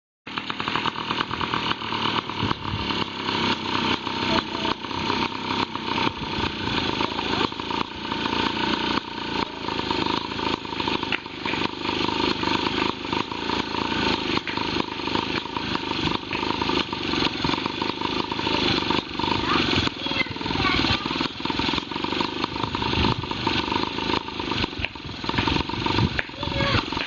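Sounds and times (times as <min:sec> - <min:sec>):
motorcycle engine idling: 0:00.3 - 0:27.0.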